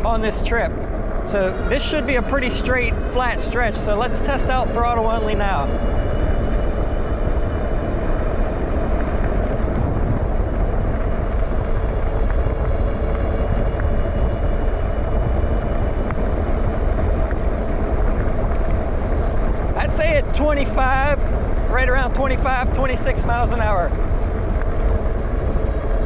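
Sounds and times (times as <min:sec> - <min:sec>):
faint electric motor whine: 0:00.0 - 0:26.0
wind and tyres rumbling: 0:00.0 - 0:26.0.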